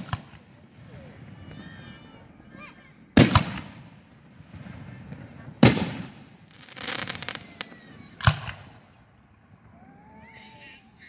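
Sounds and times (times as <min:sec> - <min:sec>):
fireworks booming: 0:00.0 - 0:10.4
fireworks crackling: 0:00.0 - 0:11.0.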